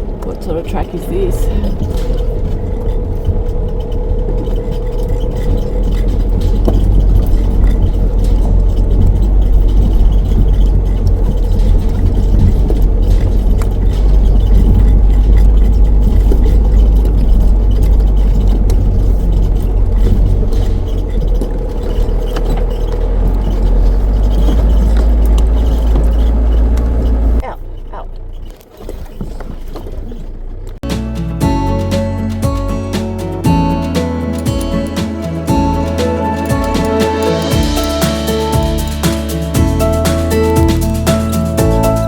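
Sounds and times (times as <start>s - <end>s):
rattles and scrapes: 0.0s - 42.0s
vehicle rumbling on gravel: 0.0s - 42.0s.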